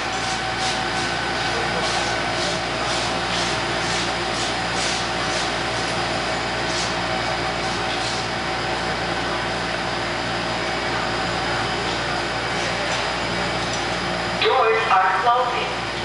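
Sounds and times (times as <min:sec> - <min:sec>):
subway train humming: 0:00.0 - 0:16.0.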